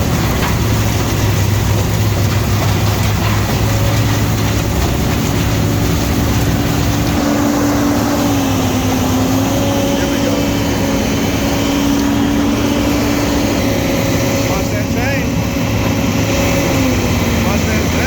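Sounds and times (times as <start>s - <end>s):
heavy machinery engine running: 0.0s - 18.0s
steady whine: 0.0s - 18.0s.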